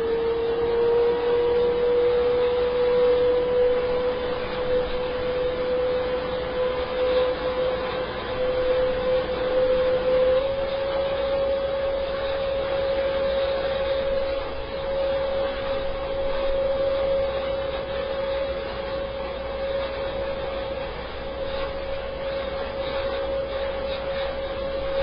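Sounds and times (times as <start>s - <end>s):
turboprop engine running: 0.0s - 25.0s.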